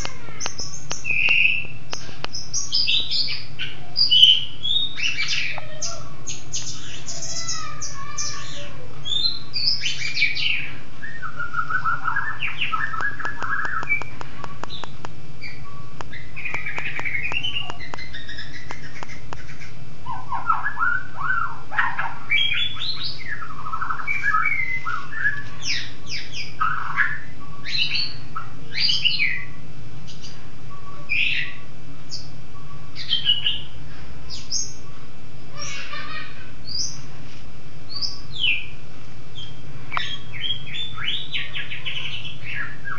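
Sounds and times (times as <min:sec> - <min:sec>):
songbird singing: 0:00.0 - 0:37.1, 0:37.8 - 0:42.9
steady low hum: 0:00.0 - 0:42.9.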